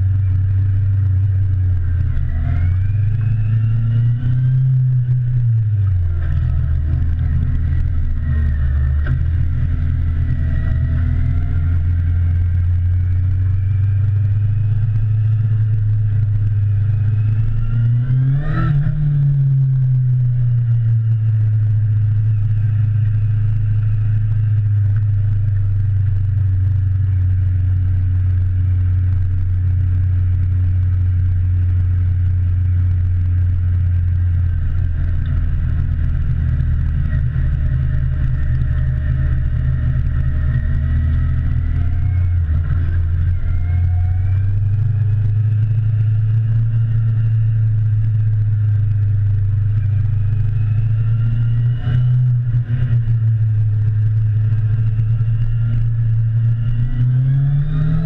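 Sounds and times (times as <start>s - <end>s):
motorcycle engine revving: 0.0s - 58.0s
wind and road rumble: 0.0s - 58.0s.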